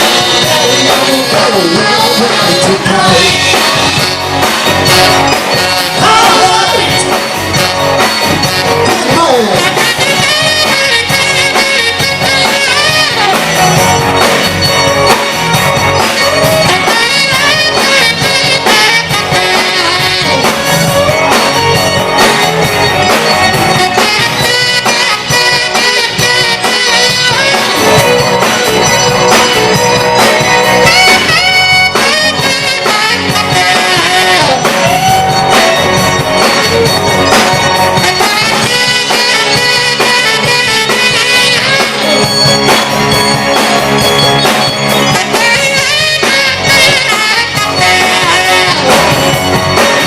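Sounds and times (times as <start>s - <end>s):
rock band playing: 0.0s - 50.0s
saxophone lead: 0.0s - 50.0s.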